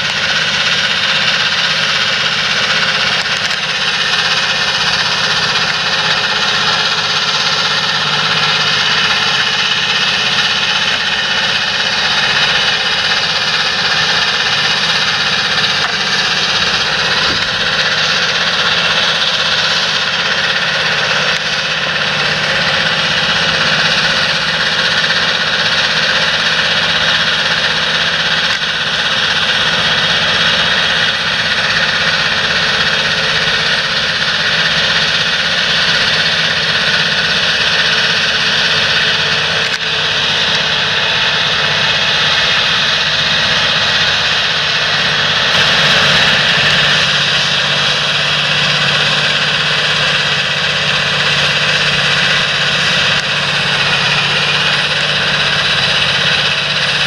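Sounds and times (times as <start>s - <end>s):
high whine: 0.0s - 57.0s
tractor engine running: 0.0s - 57.0s.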